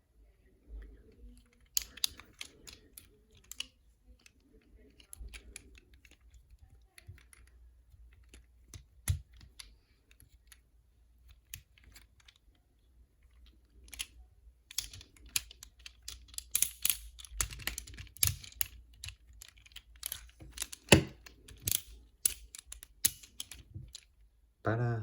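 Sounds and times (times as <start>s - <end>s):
plastic toy parts clicking: 0.6s - 24.3s.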